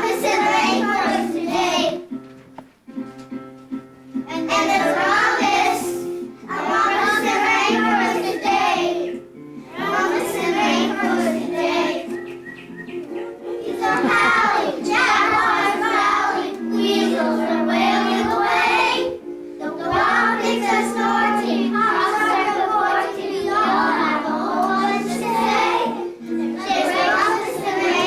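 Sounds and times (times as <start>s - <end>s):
children singing together: 0.0s - 2.2s, 4.3s - 28.0s
musical accompaniment: 0.0s - 28.0s.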